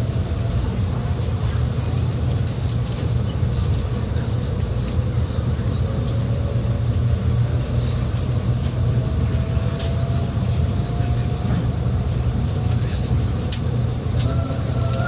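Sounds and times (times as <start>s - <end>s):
train cabin low rumble: 0.0s - 15.0s.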